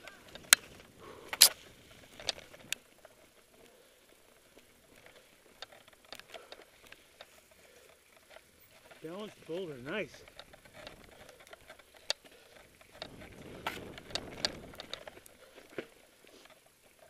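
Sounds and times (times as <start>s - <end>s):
mountain bike clattering over rock: 0.0s - 17.0s.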